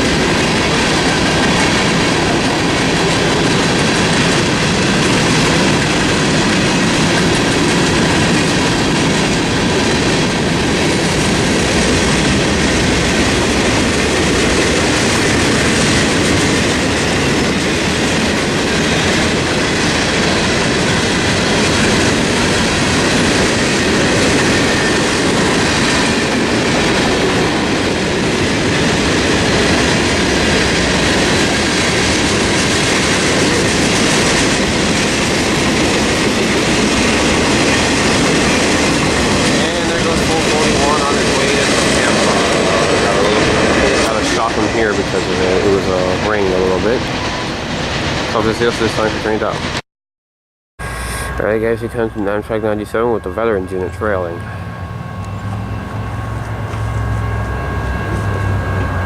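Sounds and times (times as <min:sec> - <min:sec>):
freight train wheels rumbling on rails: 0:00.0 - 0:49.8, 0:50.8 - 0:59.0.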